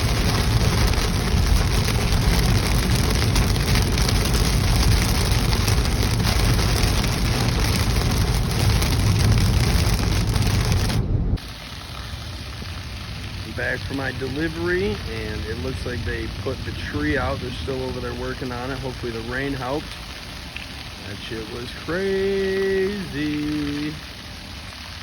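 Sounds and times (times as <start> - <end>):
low rumble: 0.0 - 21.9
heavy rain falling: 0.0 - 25.0.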